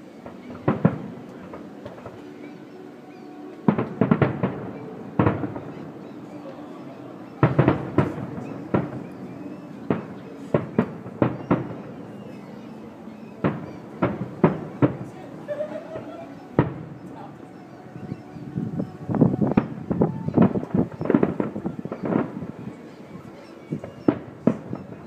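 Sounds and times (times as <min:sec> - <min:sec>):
distant firework bangs echoing: 0:00.2 - 0:02.2, 0:03.2 - 0:25.0.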